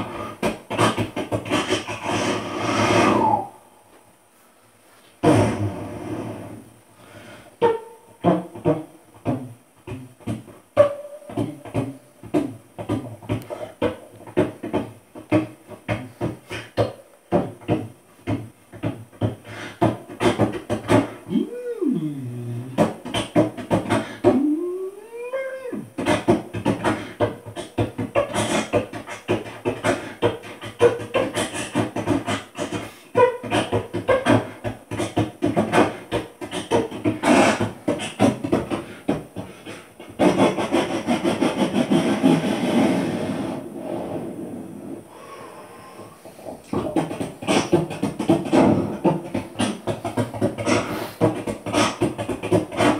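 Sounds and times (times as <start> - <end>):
beatboxing into microphone: 0.0 - 3.7, 5.2 - 44.1, 44.8 - 52.9.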